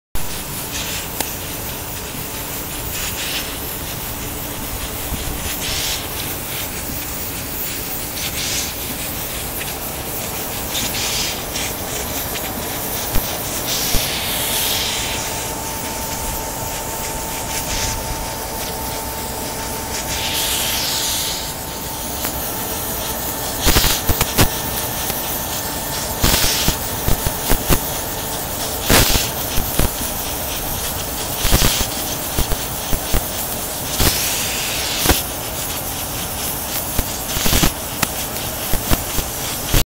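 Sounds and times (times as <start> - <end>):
torch flame hissing: 0.2 - 39.8.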